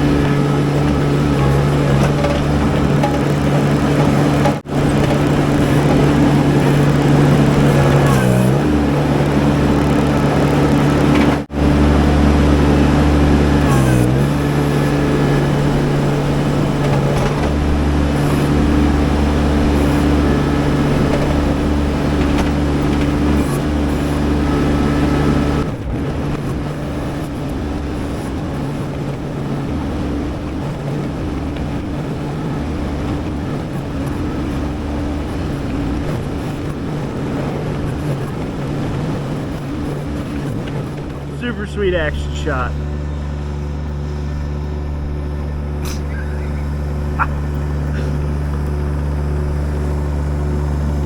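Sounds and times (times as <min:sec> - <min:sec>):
skid steer engine running: 0:00.0 - 0:51.0.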